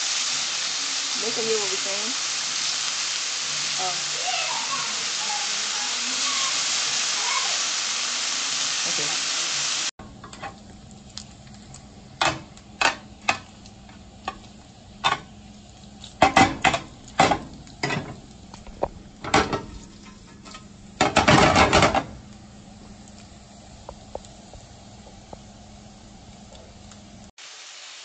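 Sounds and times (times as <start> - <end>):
bacon sizzling: 0.0 - 28.0.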